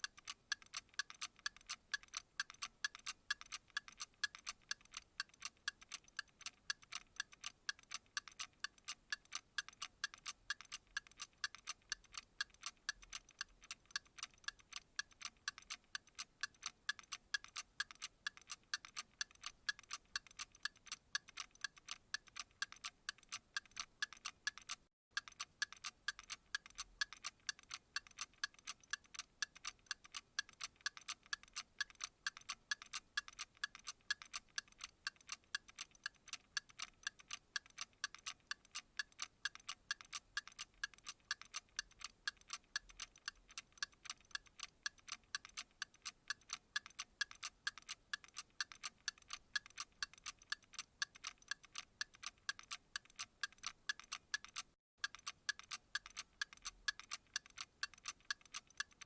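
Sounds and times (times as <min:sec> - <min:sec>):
clock ticking: 0:00.0 - 0:59.0.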